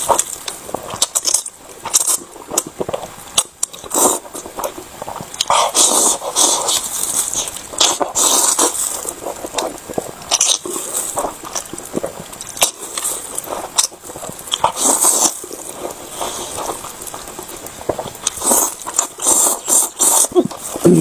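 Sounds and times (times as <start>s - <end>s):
chewing: 0.0s - 21.0s
wet noodle slurping: 3.7s - 21.0s.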